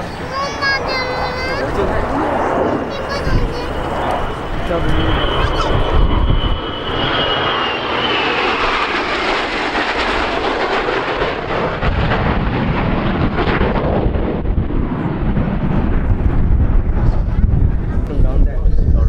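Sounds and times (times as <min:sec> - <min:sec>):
jet aircraft passing: 0:00.0 - 0:19.0.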